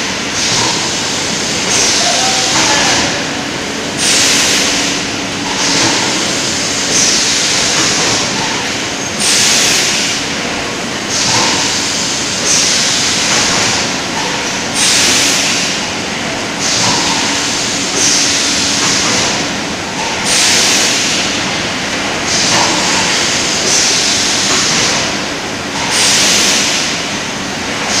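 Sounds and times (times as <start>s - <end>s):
bottling machinery running: 0.0s - 28.0s.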